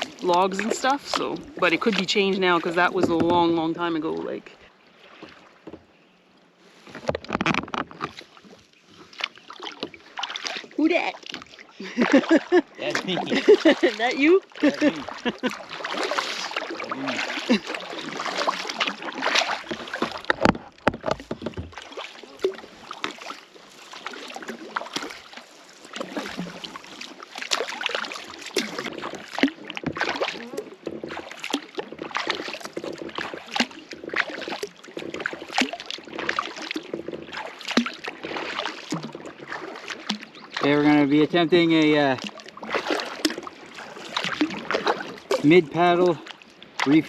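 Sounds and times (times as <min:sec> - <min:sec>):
paddles splashing in water: 0:00.0 - 0:47.0.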